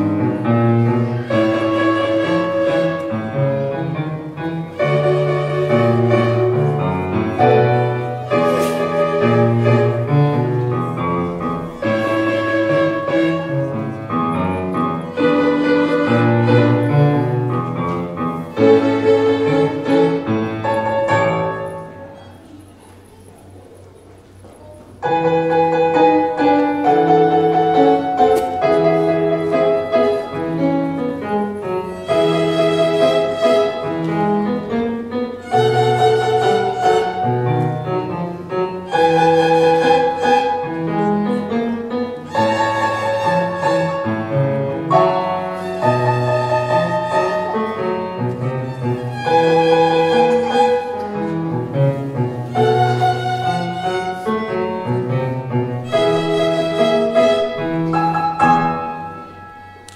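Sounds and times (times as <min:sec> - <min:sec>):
violins playing a tune: 0:00.0 - 0:22.0, 0:25.1 - 0:59.9
piano accompaniment: 0:00.0 - 0:59.9.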